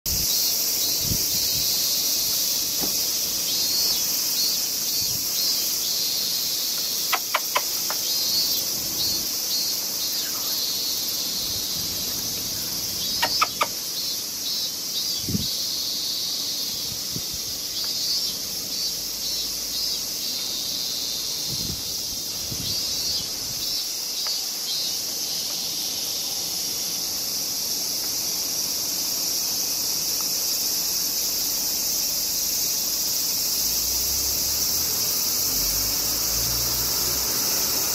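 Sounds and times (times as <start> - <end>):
high-pitched insect chorus: 0.1 - 37.9
pulsing insect calls: 0.1 - 37.9.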